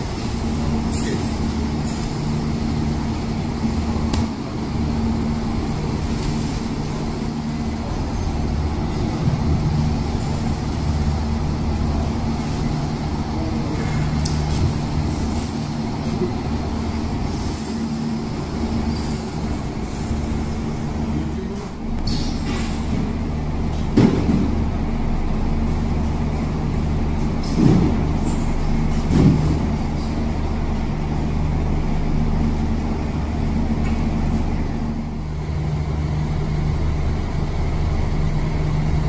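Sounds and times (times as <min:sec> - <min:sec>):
low machine drone: 0:00.0 - 0:39.0.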